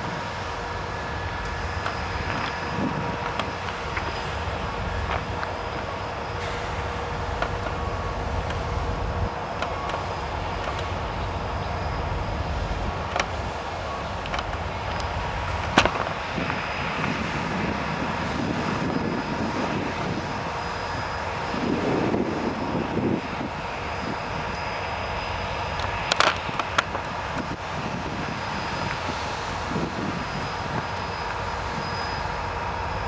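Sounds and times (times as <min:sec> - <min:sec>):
distant engine drone: 0:00.0 - 0:33.0
thin steady whine: 0:00.0 - 0:33.0.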